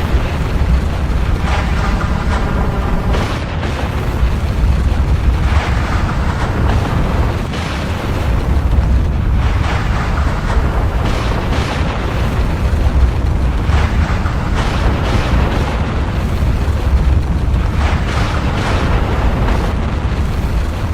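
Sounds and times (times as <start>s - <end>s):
rushing eruption blasts: 0.0s - 20.9s
volcano deep rumble: 0.0s - 20.9s.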